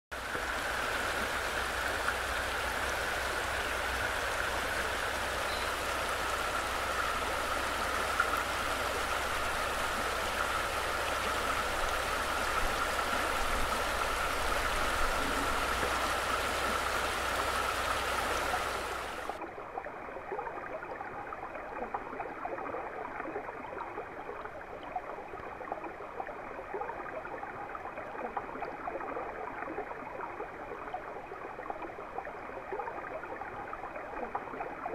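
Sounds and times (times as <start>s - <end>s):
muffled underwater water sound: 0.1s - 34.9s.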